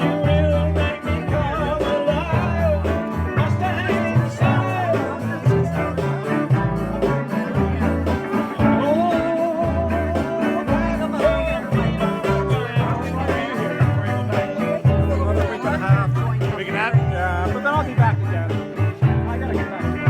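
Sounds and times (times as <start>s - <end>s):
rhythm and blues band music: 0.0s - 20.0s.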